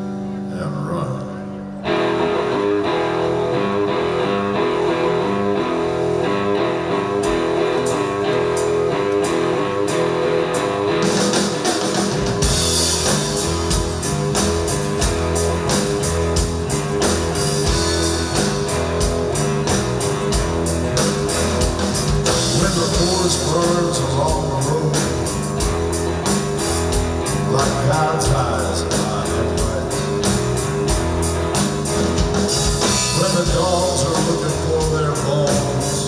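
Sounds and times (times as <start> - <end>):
guitar: 0.0 - 36.0
live band playing: 1.1 - 36.0
heavy drum and bass beat: 5.7 - 36.0.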